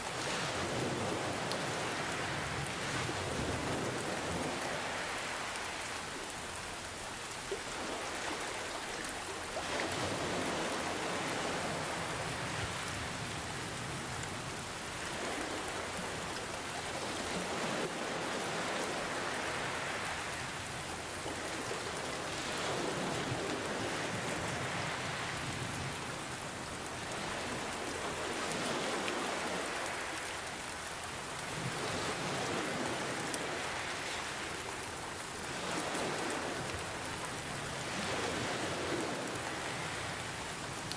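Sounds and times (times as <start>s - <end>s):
ocean waves washing in: 0.0s - 40.9s
rain hiss: 0.0s - 40.9s.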